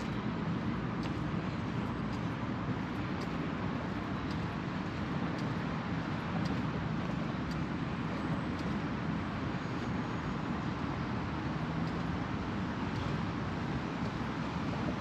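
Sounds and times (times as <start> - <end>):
faint light ticks: 0.0 - 15.0
urban traffic rumble: 0.0 - 15.0.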